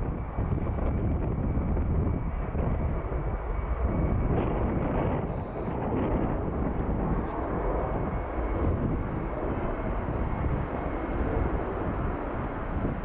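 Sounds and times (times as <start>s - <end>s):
jet engines rumbling at take-off: 0.0s - 13.0s.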